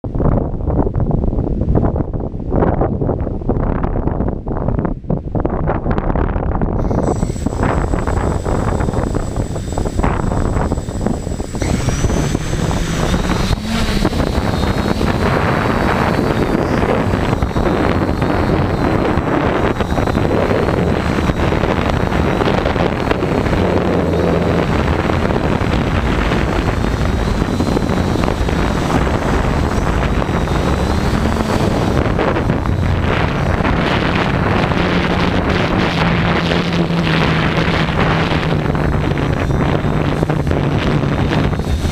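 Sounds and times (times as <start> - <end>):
wind noise on microphone: 0.0 - 41.9
drone motors whining: 6.8 - 41.9.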